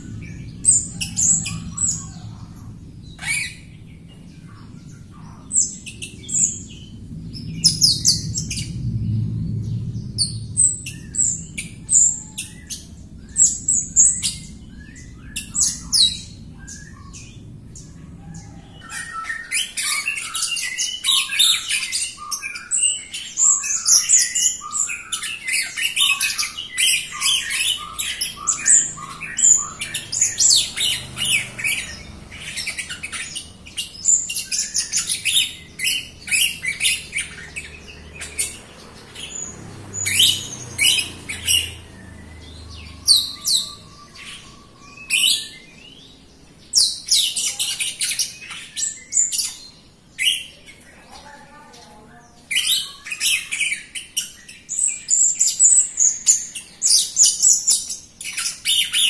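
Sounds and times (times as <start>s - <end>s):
bird singing chirps and whistles: 0.0s - 8.8s, 9.6s - 50.9s, 52.4s - 59.0s.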